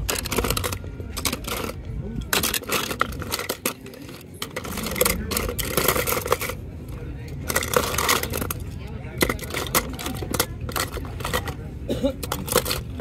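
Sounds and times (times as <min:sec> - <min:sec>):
metal toy cars clinking: 0:00.0 - 0:13.0.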